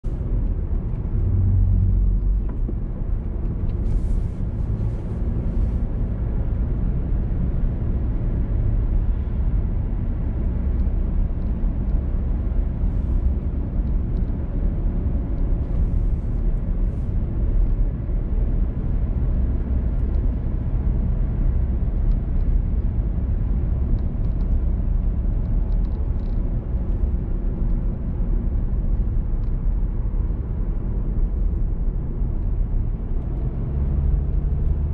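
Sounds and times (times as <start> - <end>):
car road and engine rumble: 0.0 - 34.9.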